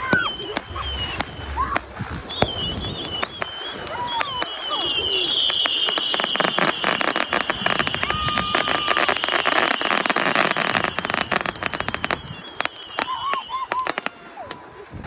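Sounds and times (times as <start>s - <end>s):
high steady whistle: 0.0s - 14.5s
fireworks crackling and popping: 0.0s - 15.0s.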